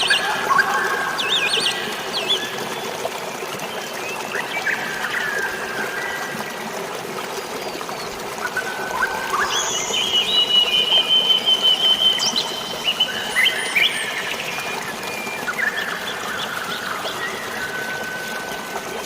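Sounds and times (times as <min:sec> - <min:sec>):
drizzling rain: 0:00.0 - 0:19.0
flowing water: 0:00.0 - 0:19.0.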